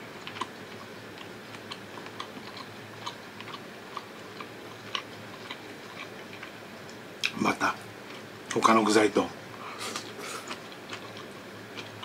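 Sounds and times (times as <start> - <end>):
person chewing: 0.0 - 7.4, 9.5 - 12.0
low steady hum: 0.0 - 12.0.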